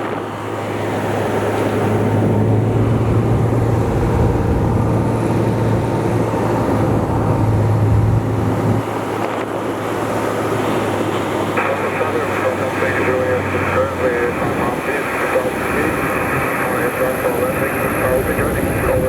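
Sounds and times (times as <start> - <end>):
aircraft piston engine running: 0.0 - 19.0.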